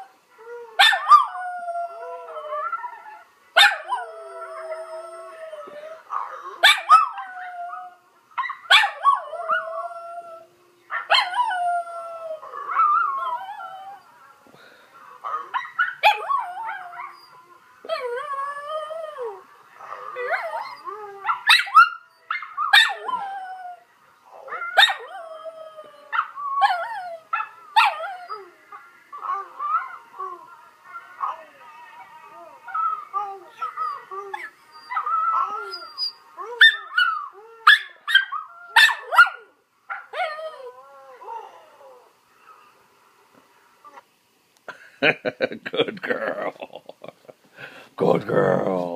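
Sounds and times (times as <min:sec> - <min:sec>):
recorded dog howling from laptop: 0:00.0 - 0:14.2, 0:15.2 - 0:42.8.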